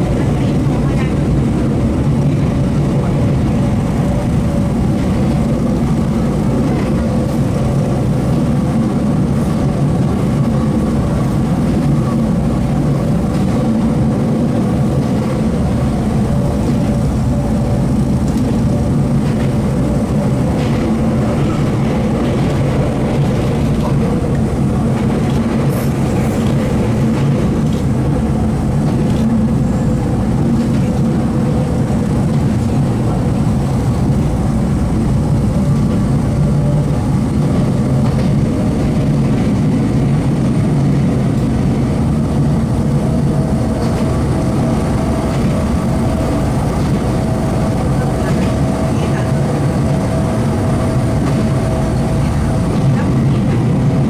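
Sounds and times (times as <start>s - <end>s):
train hum: 0.0s - 54.0s
train wheels rumbling on rail: 0.0s - 54.0s.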